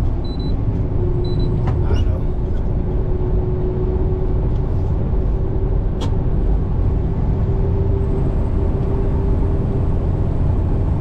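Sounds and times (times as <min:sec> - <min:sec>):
truck engine rumble: 0:00.0 - 0:11.0.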